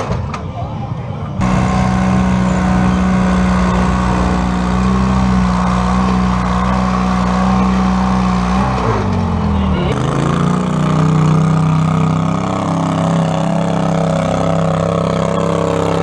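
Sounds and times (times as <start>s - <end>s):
garden tractor engine running hard: 1.4s - 16.0s.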